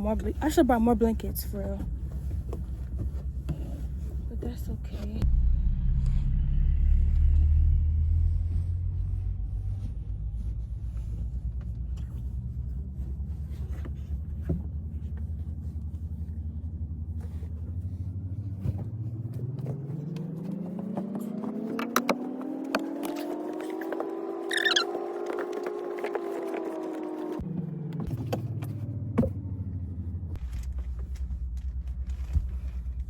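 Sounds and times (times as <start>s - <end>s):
vehicle engine rumbling and revving: 0.0s - 33.0s.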